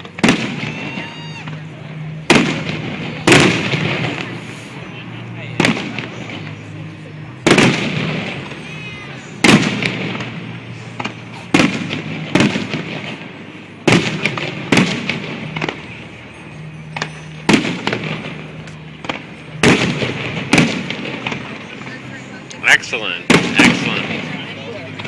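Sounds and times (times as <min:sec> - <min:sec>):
firework pops and crackles: 0:00.0 - 0:04.9, 0:05.5 - 0:25.0
firework shells booming: 0:00.0 - 0:25.0.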